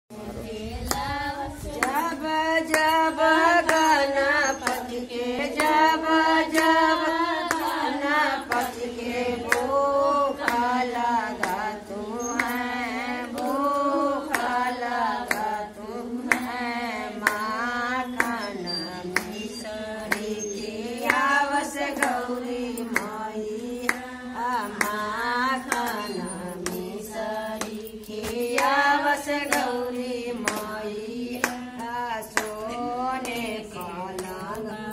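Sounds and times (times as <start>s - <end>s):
women singing devotional song: 0.1s - 34.9s
hand claps: 0.8s - 34.9s.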